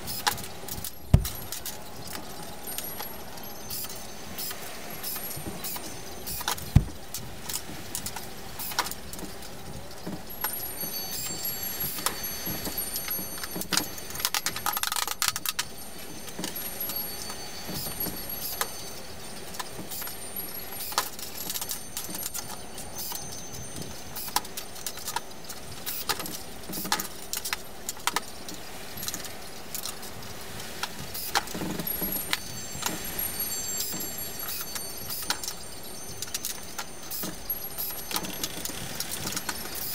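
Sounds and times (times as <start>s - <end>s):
metal wire clinking and rattling: 0.1s - 39.9s.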